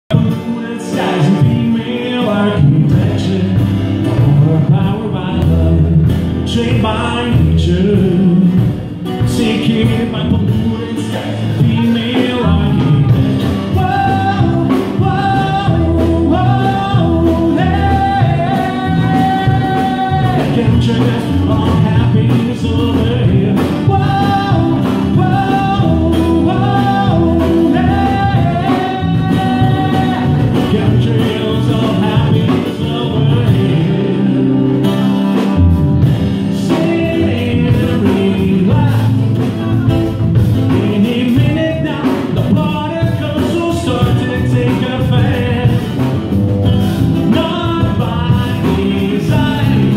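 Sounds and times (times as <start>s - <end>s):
man singing: 0.1s - 46.4s, 47.0s - 49.9s
electric bass line: 0.1s - 49.9s
strummed acoustic guitar: 0.1s - 49.9s.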